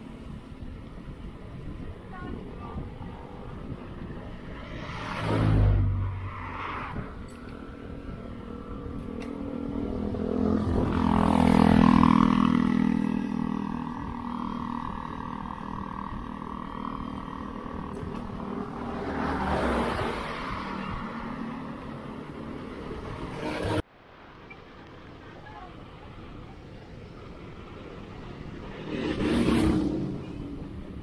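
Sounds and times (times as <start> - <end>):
traffic passing close by: 0.0 - 31.0.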